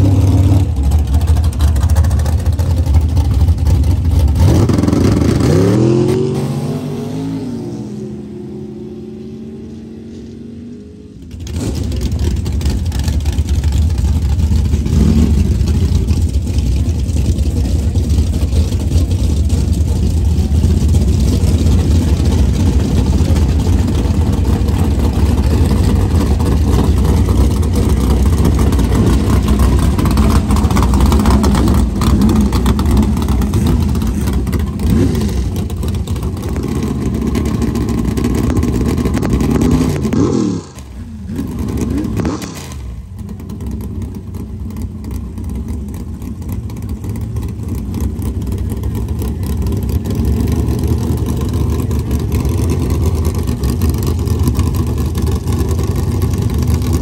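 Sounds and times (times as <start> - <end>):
drag racing engines rumbling: 0.0 - 57.0.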